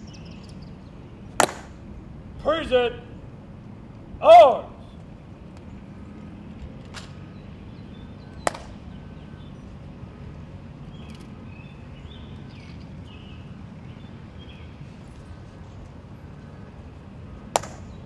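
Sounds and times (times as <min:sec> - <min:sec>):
quiet outdoor background: 0:00.0 - 0:18.0.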